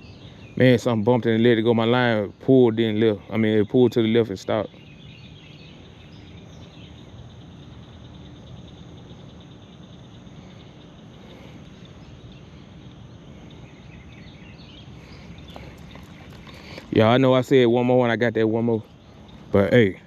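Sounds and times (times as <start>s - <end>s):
faint wildlife chirps: 0.0s - 20.0s
outdoor ambience: 0.0s - 20.0s.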